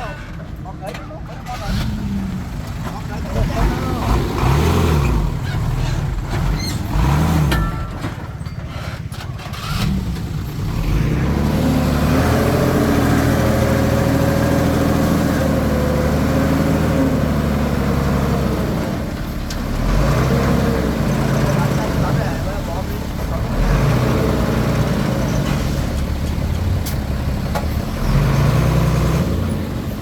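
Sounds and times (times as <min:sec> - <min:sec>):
bulldozer diesel engine working: 0:01.4 - 0:30.0.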